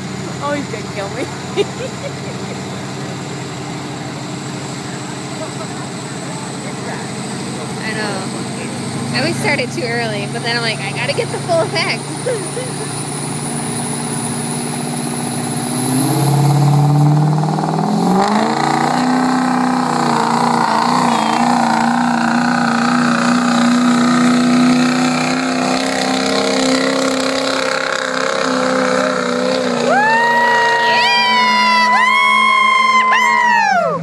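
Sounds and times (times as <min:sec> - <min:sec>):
diesel truck engine revving: 0:00.0 - 0:34.0.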